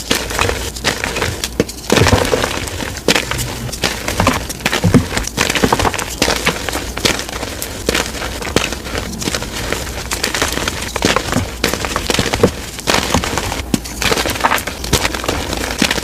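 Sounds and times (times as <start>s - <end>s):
chalk blocks crushed and crackling: 0.0s - 16.0s.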